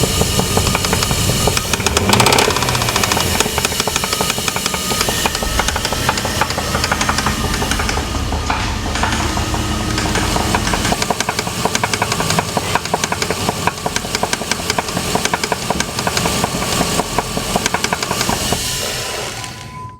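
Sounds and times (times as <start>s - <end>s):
engine running with rapid knock: 0.0s - 19.6s.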